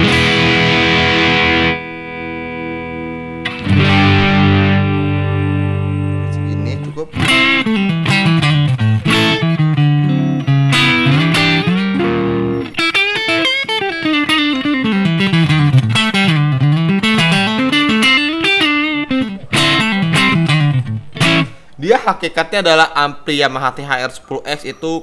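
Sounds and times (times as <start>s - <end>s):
electric guitar crunch tone: 0.0s - 21.8s.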